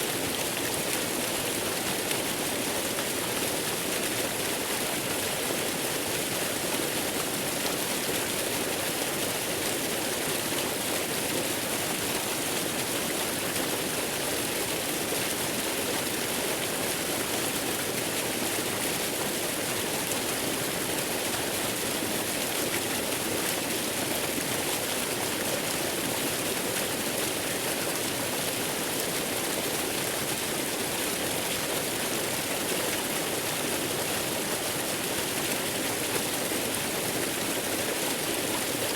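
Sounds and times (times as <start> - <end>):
waterfall: 0.0 - 38.9.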